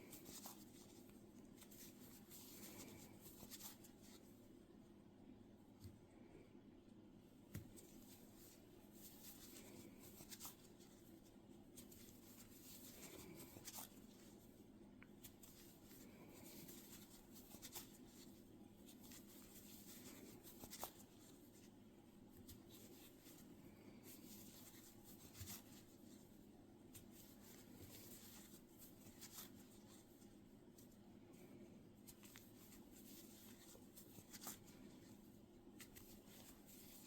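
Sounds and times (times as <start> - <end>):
yarn rustling with crochet hook: 0.0 - 4.7, 7.4 - 37.0
low room hum: 0.0 - 37.0.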